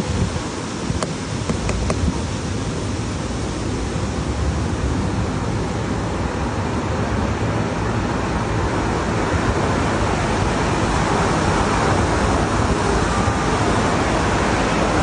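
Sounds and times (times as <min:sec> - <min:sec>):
loud rushing noise: 0:01.6 - 0:15.0.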